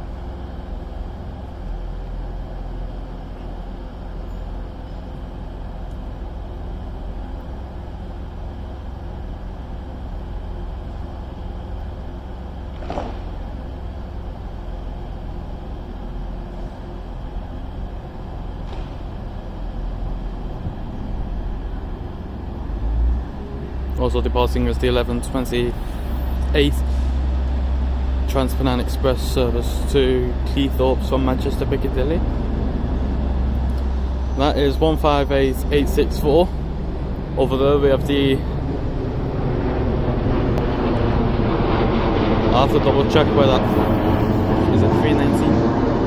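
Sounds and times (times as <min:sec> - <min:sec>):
diesel train engine rumble: 0:00.0 - 0:46.0.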